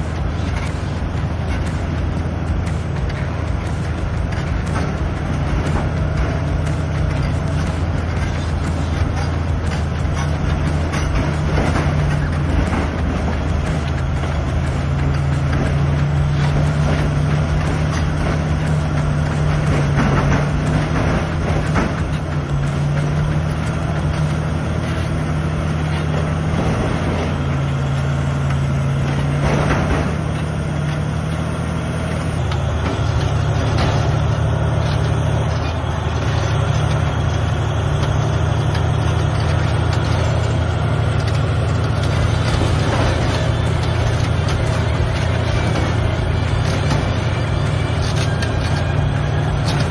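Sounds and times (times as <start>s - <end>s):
bulldozer diesel engine under load: 0.0s - 49.9s.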